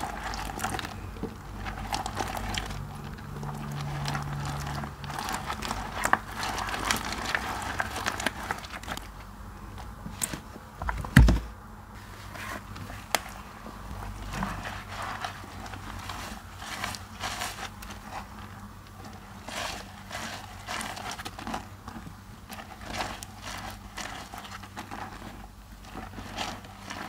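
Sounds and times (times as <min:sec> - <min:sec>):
sponge squelching in soap foam: 0:00.0 - 0:09.2, 0:12.0 - 0:27.0.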